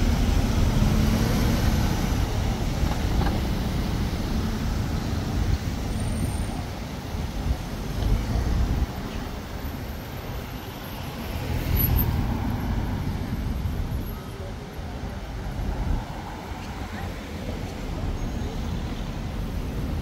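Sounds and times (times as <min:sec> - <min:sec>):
passing vehicles rumble: 0:00.0 - 0:20.0.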